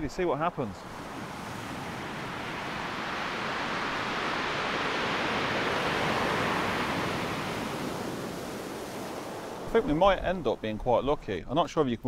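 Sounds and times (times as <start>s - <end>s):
breaking waves rushing: 0.0s - 11.0s.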